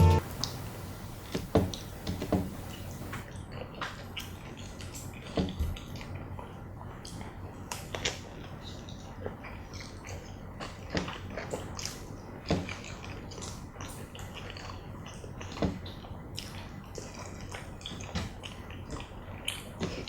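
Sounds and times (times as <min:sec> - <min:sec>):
chewing and wet lip smacks: 0:03.0 - 0:20.0.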